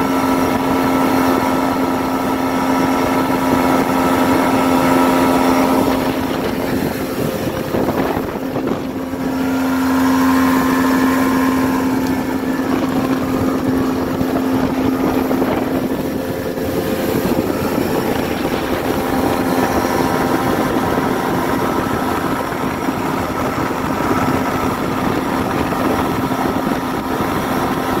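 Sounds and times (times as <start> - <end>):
outboard motor running: 0.0 - 28.0
wind and water rushing: 0.0 - 28.0.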